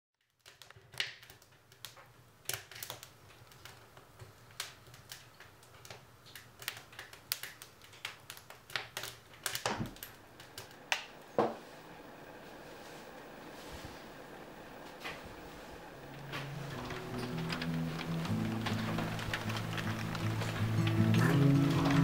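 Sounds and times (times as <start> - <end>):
wood fire crackling in a stove: 0.2 - 22.0.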